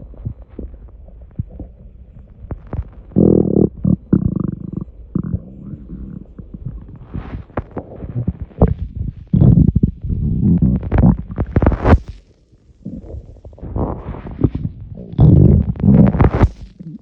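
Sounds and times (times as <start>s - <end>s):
stomach gurgling and rumbling: 0.0s - 17.0s.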